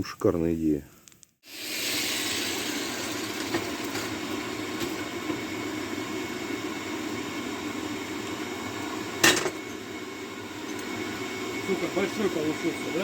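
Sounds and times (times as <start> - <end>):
forge blower roaring: 1.7 - 13.0.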